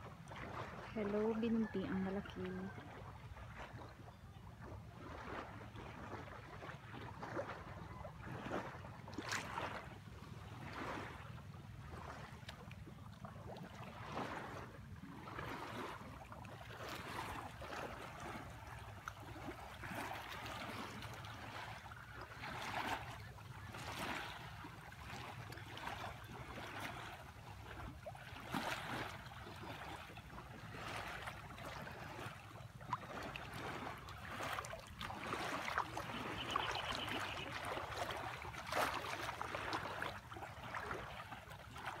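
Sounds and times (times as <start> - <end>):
water rushing along boat hull: 0.0 - 42.0.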